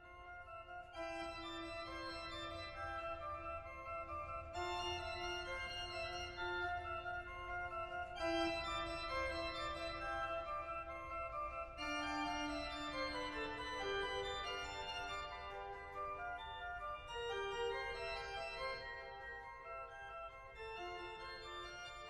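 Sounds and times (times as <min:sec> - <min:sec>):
organ playing sustained chords: 0:00.0 - 0:22.0.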